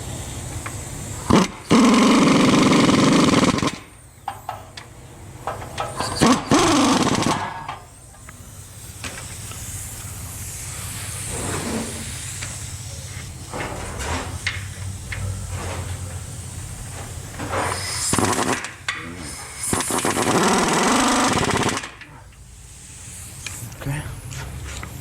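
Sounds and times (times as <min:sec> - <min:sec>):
air ratchet whirring: 0:00.6 - 0:25.0.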